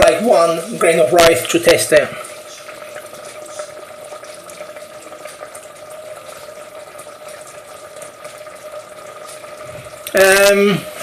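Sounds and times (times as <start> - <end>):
watery hiss with crackle: 0.0 - 11.0.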